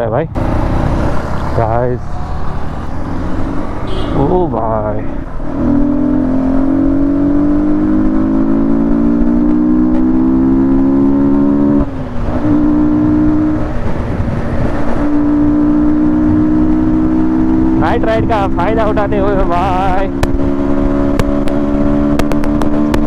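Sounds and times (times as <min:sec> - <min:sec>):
motorcycle engine accelerating: 0:00.3 - 0:23.0.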